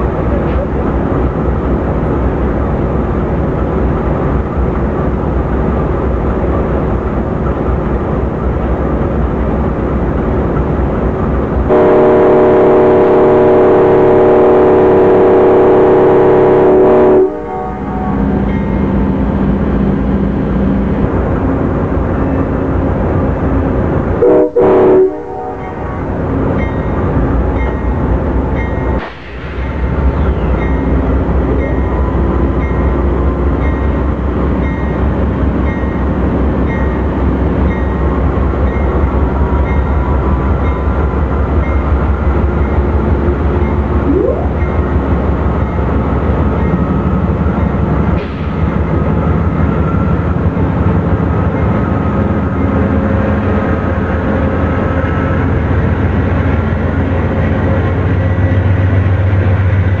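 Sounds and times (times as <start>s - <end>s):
diesel locomotives passing: 0.0s - 60.0s.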